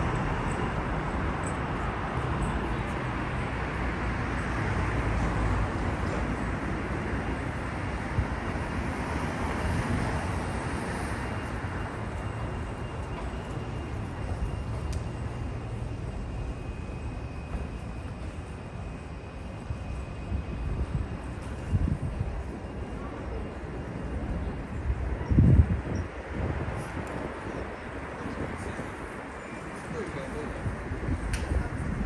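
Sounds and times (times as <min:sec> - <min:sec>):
faint high whine: 0:00.0 - 0:32.0.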